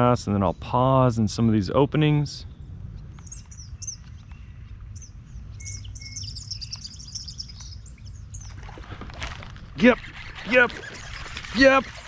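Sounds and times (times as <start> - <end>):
small birds chirping: 0.0 - 8.8, 9.7 - 12.0.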